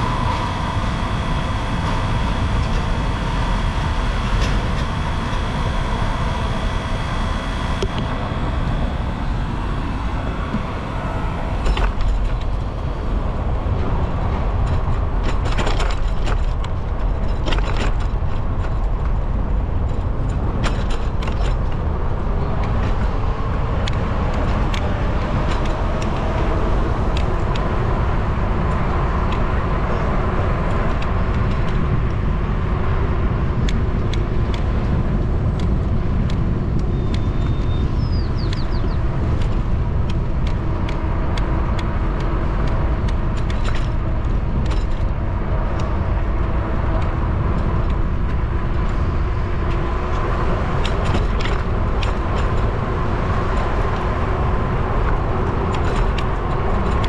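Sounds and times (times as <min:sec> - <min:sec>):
bike clicks and rattles: 0:00.0 - 0:57.0
faint hum: 0:00.0 - 0:57.0
wind rumble: 0:00.0 - 0:57.0.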